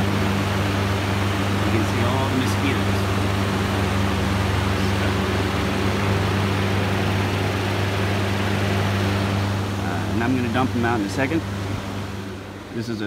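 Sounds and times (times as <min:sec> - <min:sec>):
fan motor hum: 0:00.0 - 0:13.0.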